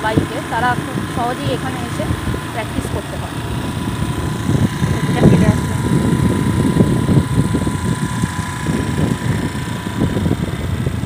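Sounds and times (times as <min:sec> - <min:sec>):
road and engine noise: 0:00.0 - 0:11.0
wind buffeting microphone: 0:00.0 - 0:11.0.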